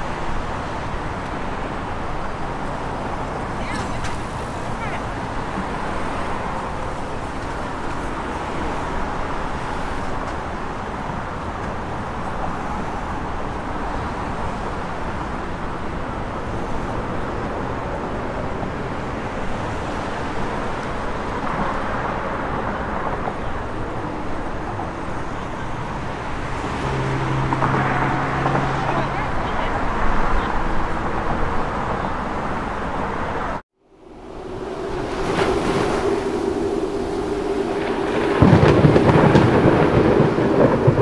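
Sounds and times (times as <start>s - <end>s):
street traffic noise: 0.0s - 41.0s.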